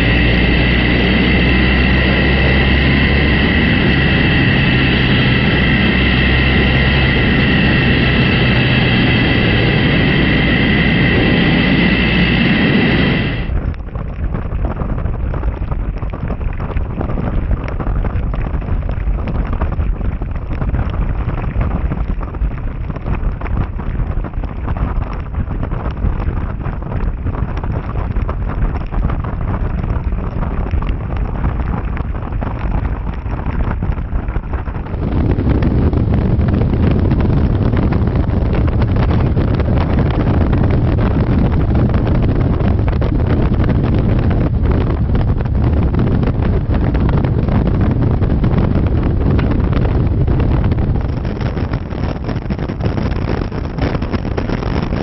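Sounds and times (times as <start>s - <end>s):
motorcycle running noise: 0.0s - 55.0s
wind buffeting microphone: 0.0s - 55.0s.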